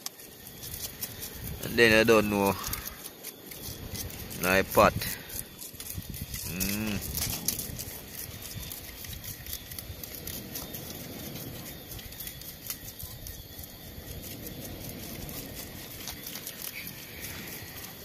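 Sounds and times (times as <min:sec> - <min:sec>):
background hiss: 0:00.0 - 0:18.0
pebbles and wet fish clicking: 0:00.0 - 0:18.0.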